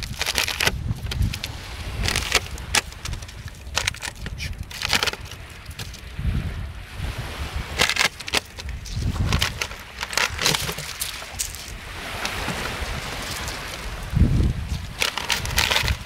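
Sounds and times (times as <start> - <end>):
dog scraping at sand and pebbles: 0.0 - 6.0, 7.4 - 16.0
wind rumble on microphone: 0.0 - 16.0.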